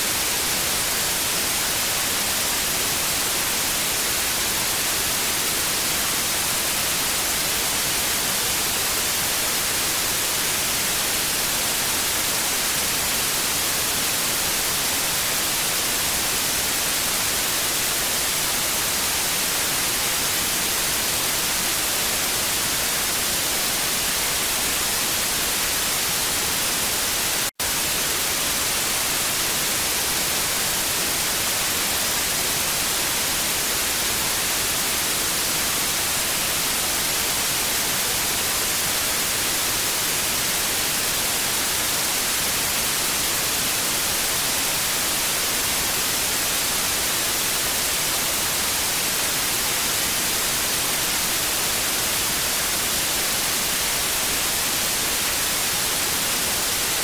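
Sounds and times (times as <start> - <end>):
tv static hiss: 0.0 - 57.0.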